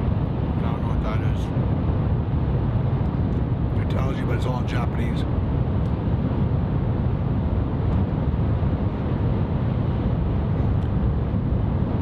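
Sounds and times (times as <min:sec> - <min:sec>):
train rumble inside cabin: 0:00.0 - 0:12.0.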